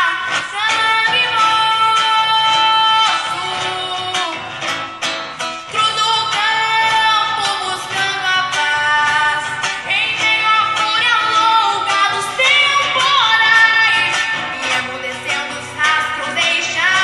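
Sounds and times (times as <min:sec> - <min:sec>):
girl singing through a pa: 0:00.0 - 0:04.9, 0:05.6 - 0:17.0
acoustic guitar: 0:00.0 - 0:17.0.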